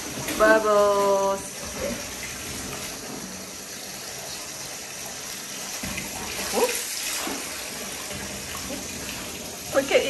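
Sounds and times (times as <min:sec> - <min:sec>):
tap water running into bathtub: 0:00.0 - 0:10.0.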